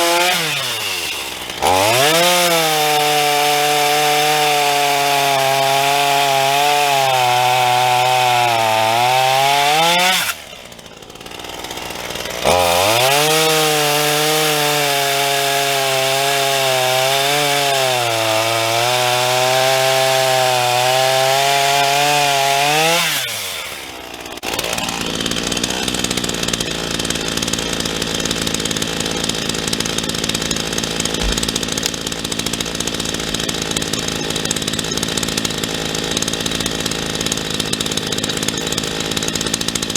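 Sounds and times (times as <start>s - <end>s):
chainsaw cutting wood: 0.0s - 39.9s
chainsaw engine idling: 0.0s - 39.9s.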